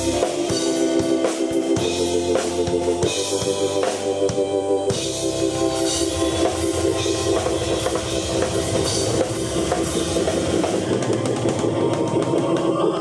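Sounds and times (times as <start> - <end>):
drum kit playing fast: 0.0 - 13.0
keyboard sustained chord: 0.0 - 13.0.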